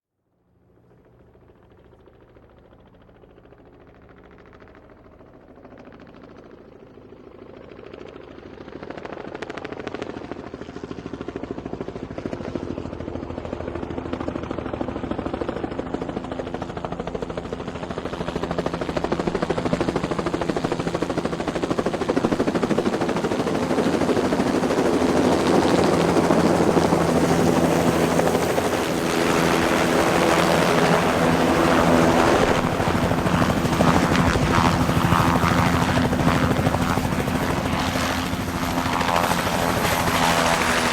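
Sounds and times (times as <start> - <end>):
helicopter rotor and turbine: 0.6 - 40.9.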